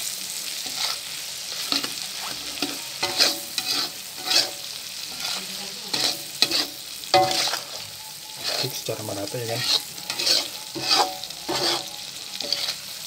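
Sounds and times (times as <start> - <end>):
food frying sizzle: 0.0 - 13.0
metal spatula scraping a wok: 0.5 - 13.0.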